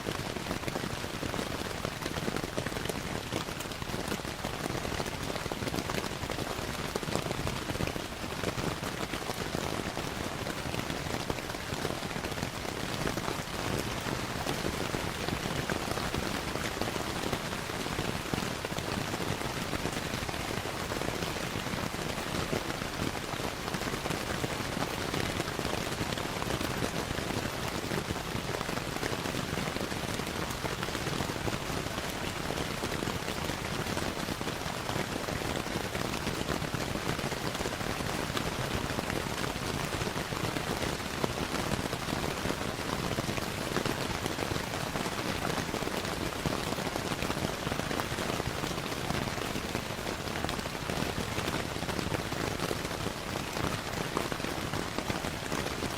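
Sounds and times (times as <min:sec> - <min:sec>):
rain patter: 0:00.0 - 0:55.9.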